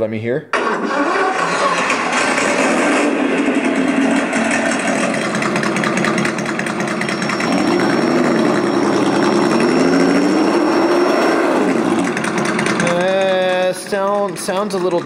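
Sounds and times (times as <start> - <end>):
simulated truck engine revving: 0.6 - 13.9.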